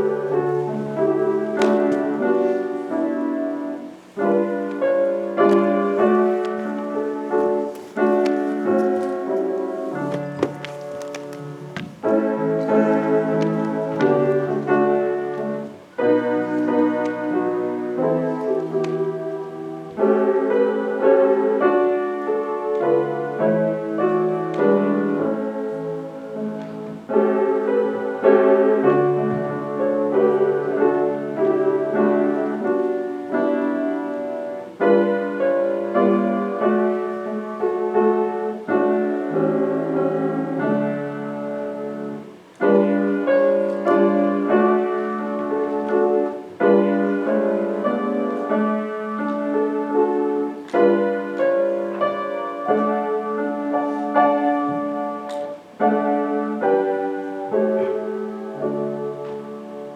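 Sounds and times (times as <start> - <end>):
piano playing slow chords: 0.0 - 59.9.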